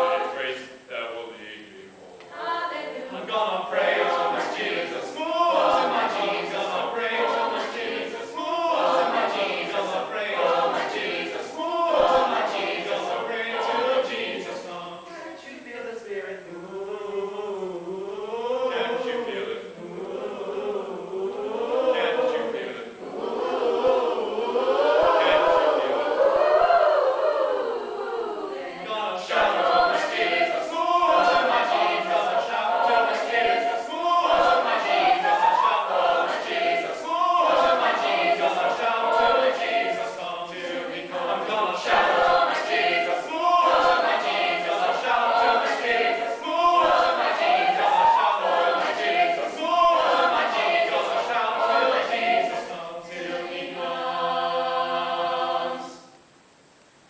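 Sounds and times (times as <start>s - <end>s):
choir singing a cappella: 0.0s - 56.6s.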